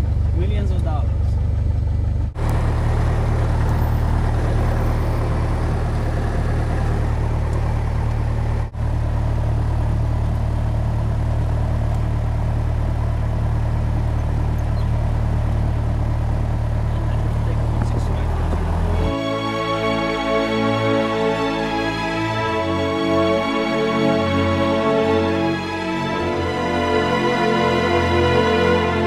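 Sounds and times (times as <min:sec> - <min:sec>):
light plane engine droning: 0:00.0 - 0:29.0.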